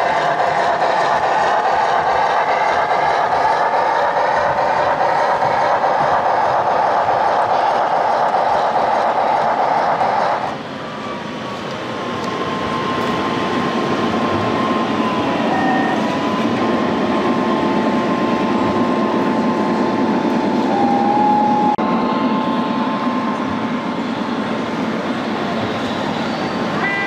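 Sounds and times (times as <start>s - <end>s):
model train high whine: 0.0s - 27.0s.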